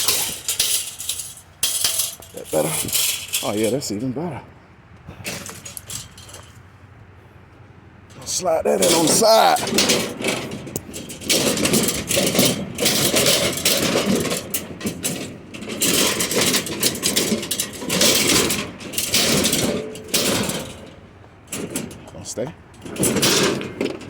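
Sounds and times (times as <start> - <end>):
scrap metal scraping and clattering: 0.0 - 4.2, 5.1 - 6.7, 8.1 - 24.0.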